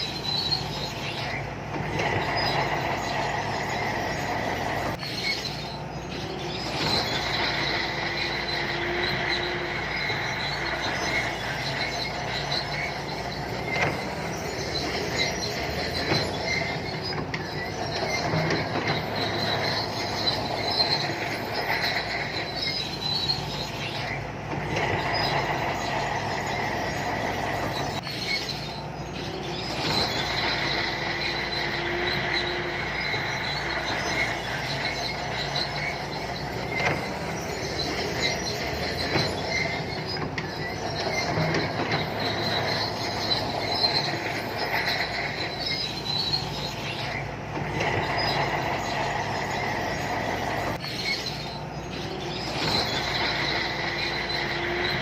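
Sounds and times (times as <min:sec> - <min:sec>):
bulldozer diesel engine running: 0:00.0 - 0:55.0
steel tracks squealing: 0:00.0 - 0:55.0.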